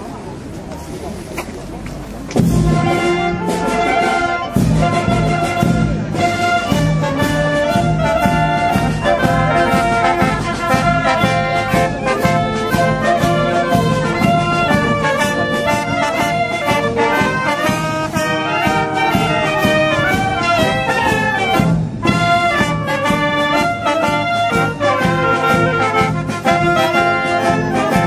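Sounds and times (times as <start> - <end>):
wind band playing a march: 2.3 - 28.0
bass drum beat: 4.6 - 28.0.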